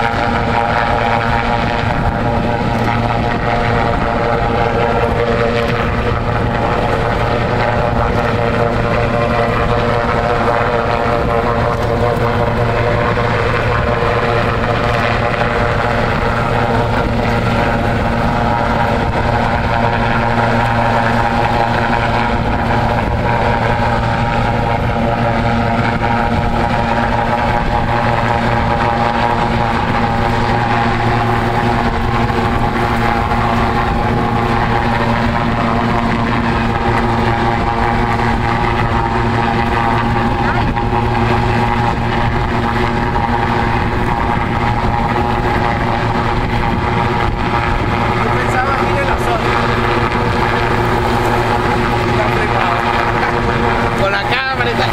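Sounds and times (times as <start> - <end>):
helicopter hovering: 0.0 - 54.9.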